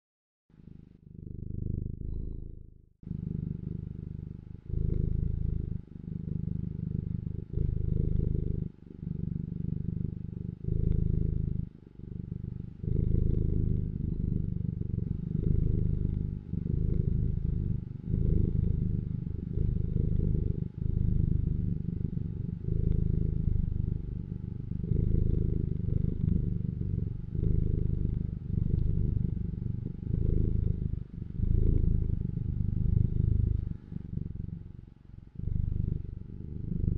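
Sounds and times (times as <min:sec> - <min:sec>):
cat purring: 0:00.5 - 0:36.9.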